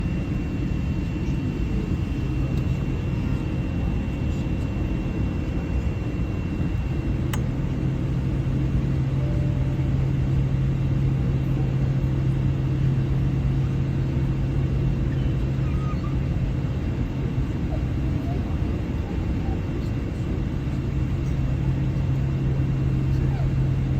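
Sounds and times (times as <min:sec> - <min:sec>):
jet engine rumble in cabin: 0:00.0 - 0:23.9.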